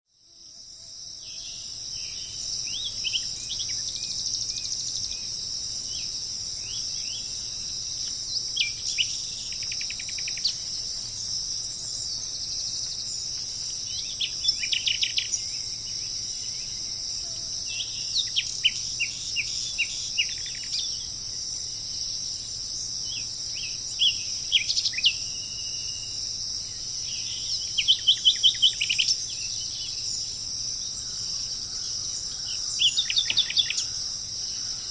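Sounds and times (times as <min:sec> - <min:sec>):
high-pitched insect drone: 0:00.1 - 0:34.9
birds chirping: 0:01.3 - 0:17.1, 0:17.7 - 0:34.9.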